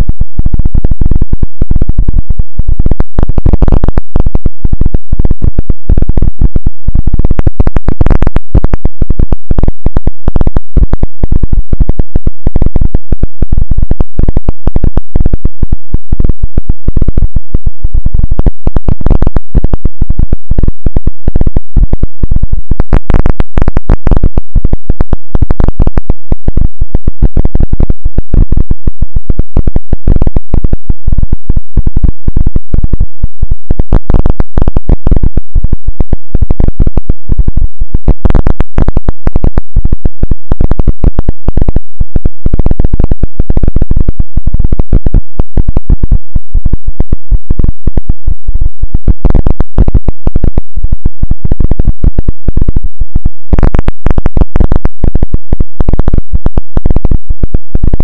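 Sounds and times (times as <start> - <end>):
distorted electronic crackle: 0.0 - 58.0.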